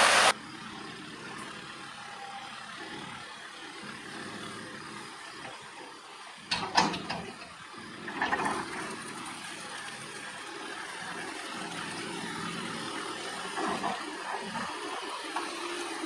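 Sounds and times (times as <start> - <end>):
telehandler engine running: 0.1 - 16.0.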